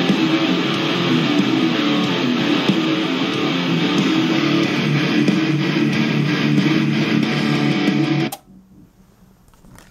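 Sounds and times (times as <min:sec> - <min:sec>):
strummed guitar music from speakers: 0:00.0 - 0:08.3.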